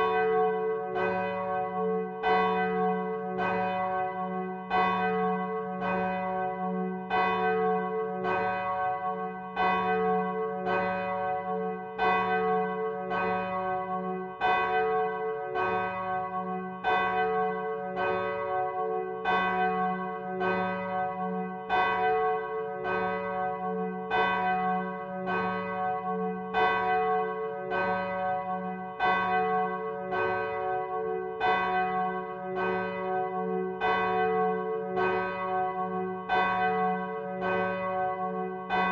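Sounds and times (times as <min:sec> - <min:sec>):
large church bell ringing: 0:00.0 - 0:38.9.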